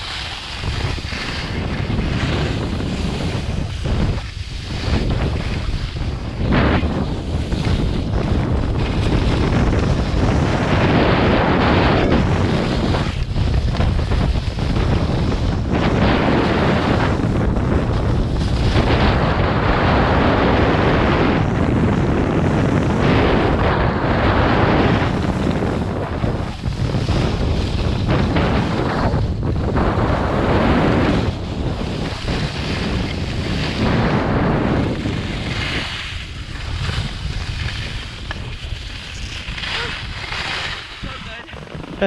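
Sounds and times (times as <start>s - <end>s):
skis scraping over snow: 0.0s - 42.0s
wind rushing over microphone: 0.0s - 42.0s.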